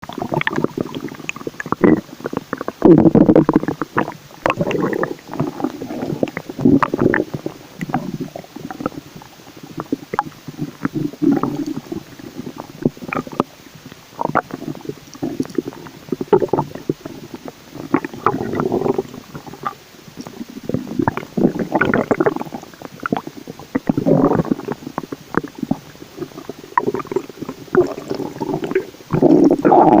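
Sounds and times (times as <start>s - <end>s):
stomach growling and gurgling: 0.0s - 30.0s.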